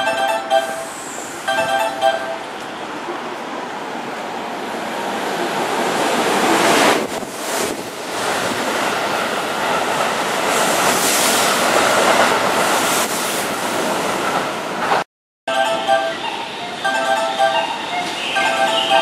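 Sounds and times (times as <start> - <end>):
train wheels rushing on rail: 0.6 - 15.0, 16.2 - 19.0.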